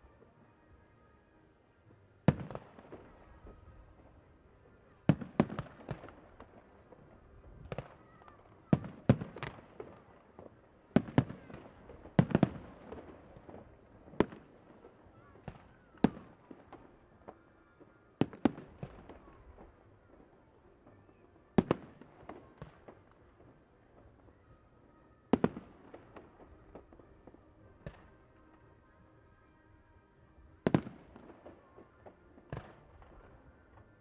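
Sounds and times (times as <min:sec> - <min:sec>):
fireworks bursting with bangs: 0:02.2 - 0:24.4, 0:25.3 - 0:28.8, 0:30.5 - 0:34.0.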